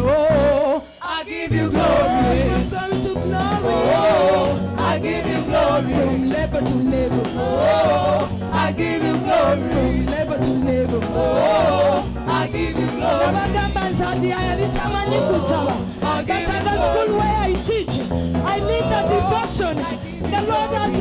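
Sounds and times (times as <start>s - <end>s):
bass line: 0.0s - 0.8s, 1.4s - 21.0s
gospel band playing: 0.0s - 21.0s
person singing: 0.0s - 21.0s
steady drum beat: 1.6s - 21.0s.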